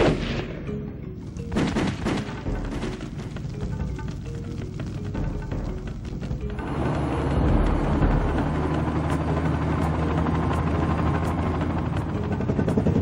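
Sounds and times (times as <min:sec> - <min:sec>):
helicopter rotor and engine: 0:00.7 - 0:13.0.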